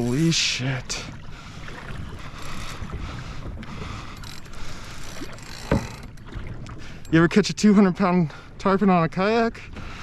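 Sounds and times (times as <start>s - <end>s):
water moving around kayak: 0.0s - 10.0s.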